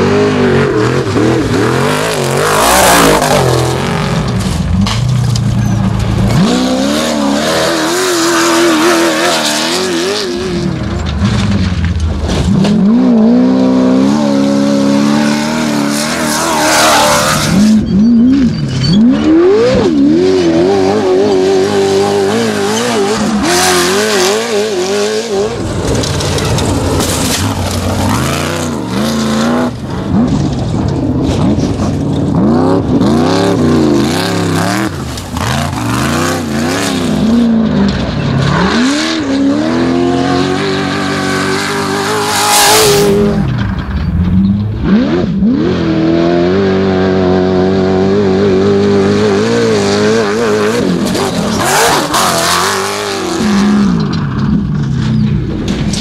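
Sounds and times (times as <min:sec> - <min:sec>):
race buggy engines revving: 0:00.0 - 0:56.0.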